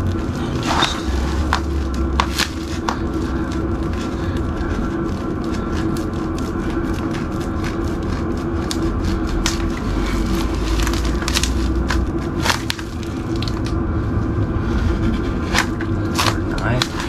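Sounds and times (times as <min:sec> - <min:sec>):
blade crackling in foam: 0:00.0 - 0:13.9, 0:14.9 - 0:17.0.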